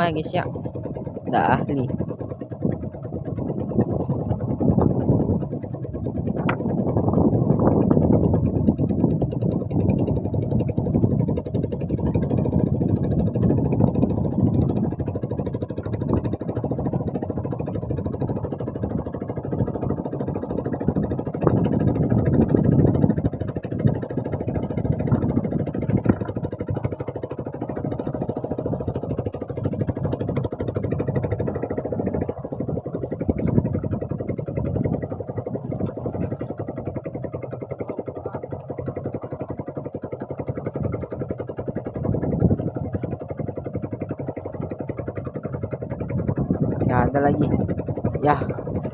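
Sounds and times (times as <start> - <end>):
small boat engine running: 0.0 - 48.9.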